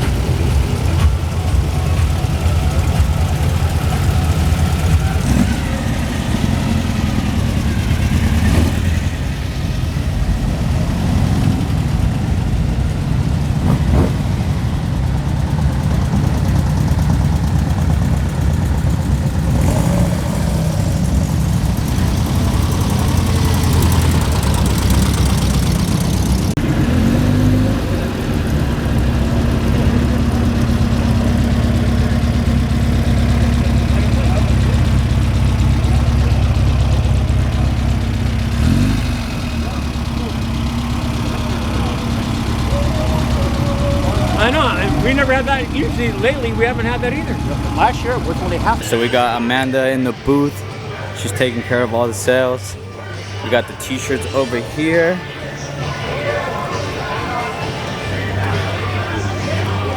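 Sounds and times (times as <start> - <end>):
car engine low rumble: 0.0 - 59.9.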